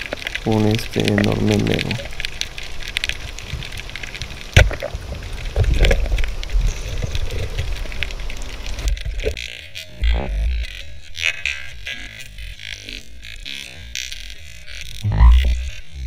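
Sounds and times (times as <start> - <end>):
sharp underwater clicks: 0.0 - 16.0
underwater rumble of moving water: 0.0 - 16.0.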